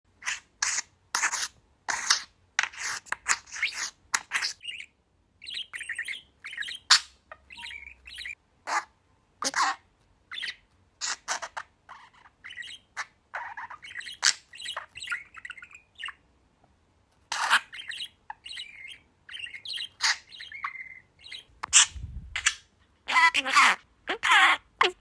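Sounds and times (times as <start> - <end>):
small bird chirping and squawking: 0.1 - 16.3, 17.2 - 25.0.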